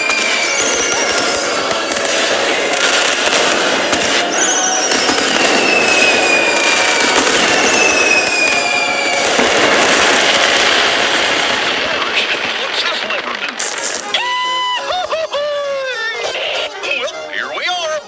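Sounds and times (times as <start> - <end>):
falling firework whistles: 0.0 - 15.1
fireworks crackling and popping: 0.0 - 18.0.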